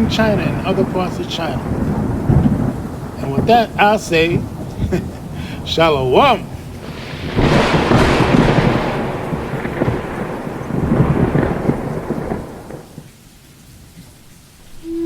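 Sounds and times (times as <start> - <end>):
thunder rolling and crackling: 0.0 - 13.2
rain: 0.0 - 15.0.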